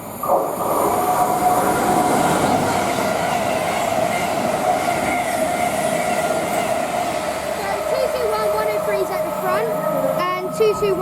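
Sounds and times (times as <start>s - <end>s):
train engine and rail rumble: 0.0s - 11.0s.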